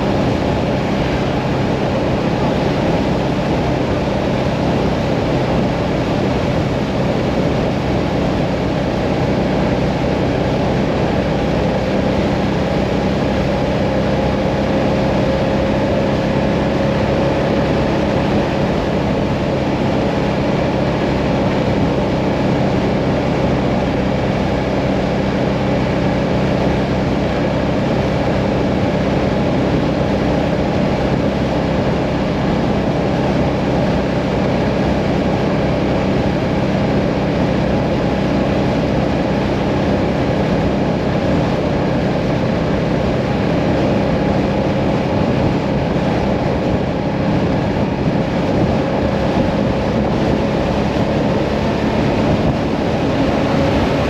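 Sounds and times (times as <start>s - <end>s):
motorcycle engine cruising: 0.0s - 54.0s
rushing wind noise: 0.0s - 54.0s.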